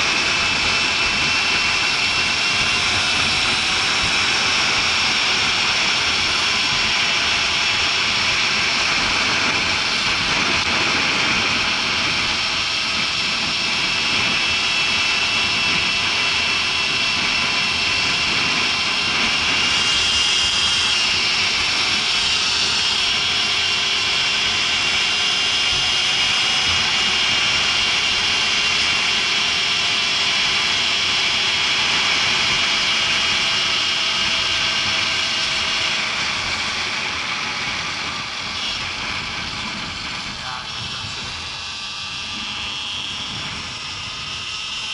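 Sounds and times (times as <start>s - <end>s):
electric motor whine: 0.0s - 44.9s
wind and tyre noise: 0.0s - 44.9s.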